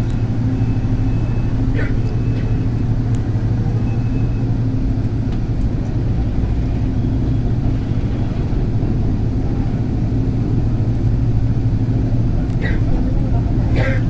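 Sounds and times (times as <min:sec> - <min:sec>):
train car rumble and hum: 0:00.0 - 0:14.0.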